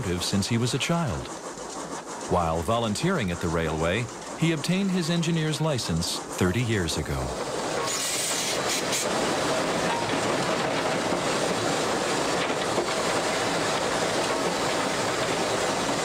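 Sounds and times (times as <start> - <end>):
steam locomotive running: 0.0 - 16.0.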